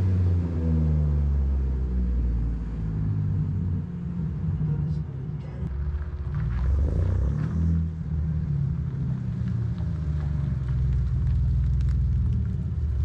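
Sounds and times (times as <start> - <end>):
car exhaust rumble: 0.0 - 13.0.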